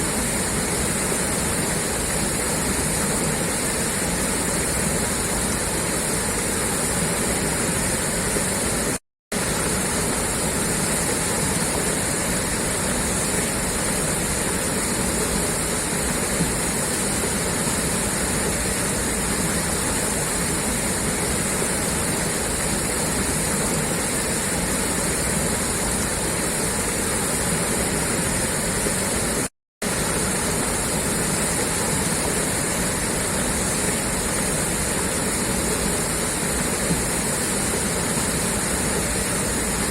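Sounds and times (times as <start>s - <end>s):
water gushing from a pipe: 0.0s - 39.9s.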